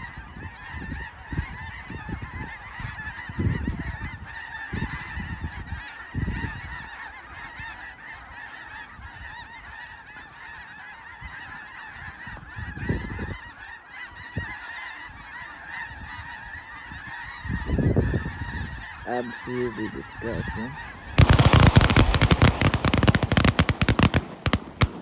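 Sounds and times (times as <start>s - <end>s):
flock of geese honking: 0.0s - 25.0s.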